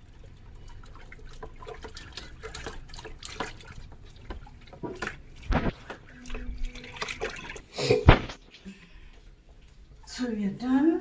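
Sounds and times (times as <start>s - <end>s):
water dripping and splashing: 0.0s - 10.4s.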